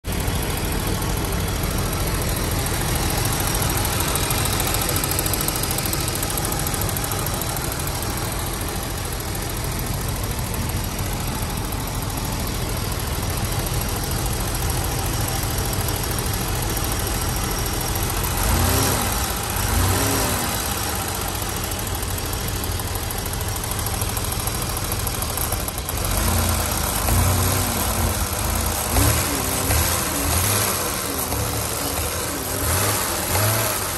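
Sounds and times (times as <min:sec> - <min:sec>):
car engine idling with tick: 0:00.0 - 0:33.9.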